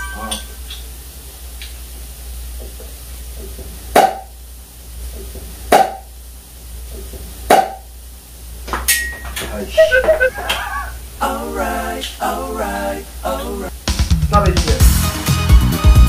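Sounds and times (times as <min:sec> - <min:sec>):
room noise: 0:00.0 - 0:13.8.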